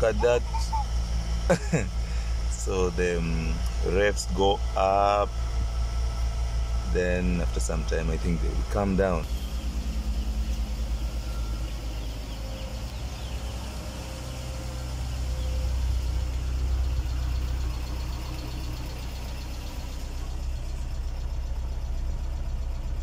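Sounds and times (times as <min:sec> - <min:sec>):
car engines idling: 0:00.0 - 0:23.0.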